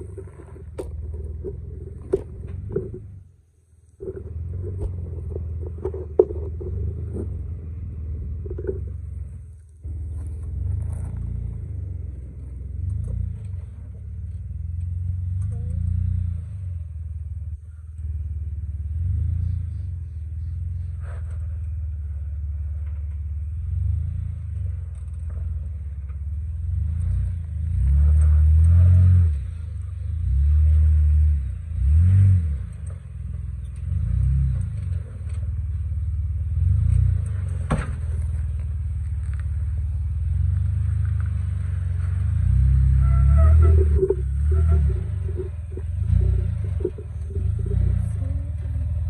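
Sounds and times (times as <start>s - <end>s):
engine throttle blips: 0.0s - 49.0s.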